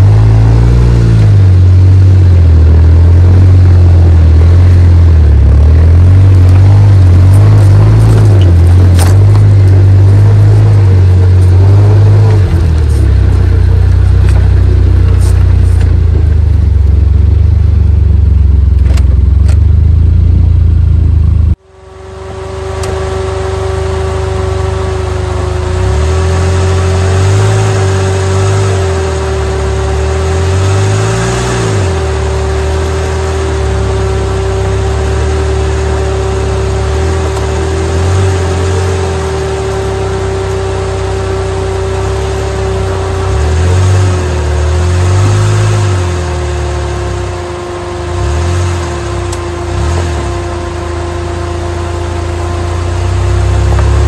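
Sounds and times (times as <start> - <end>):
car engine droning under load: 0.0 - 54.0
high whine: 0.0 - 54.0.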